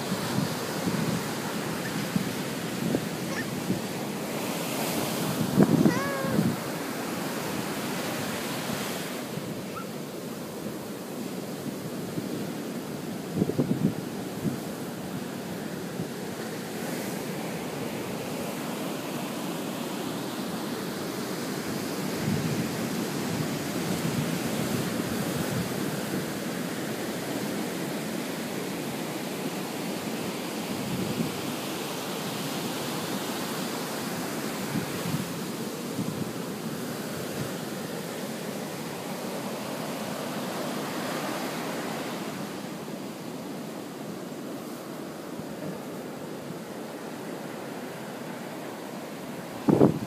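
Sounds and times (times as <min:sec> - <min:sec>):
ocean surf breaking on beach: 0:00.0 - 0:50.0.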